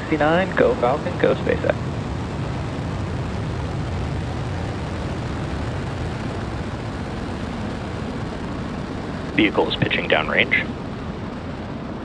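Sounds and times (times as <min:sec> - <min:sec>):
rocket engines deep rumble: 0:00.0 - 0:12.0.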